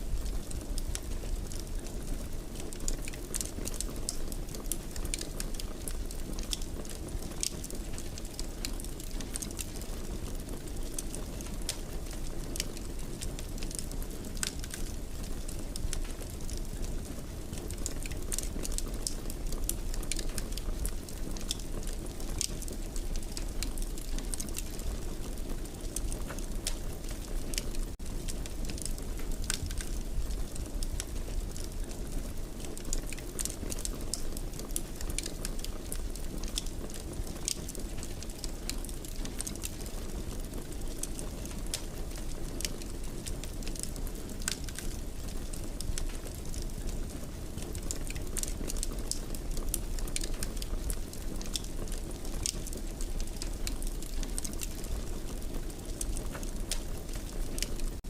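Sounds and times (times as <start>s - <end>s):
fire crackles and pops: 0.0s - 58.0s
low rumble of flames: 0.0s - 58.0s.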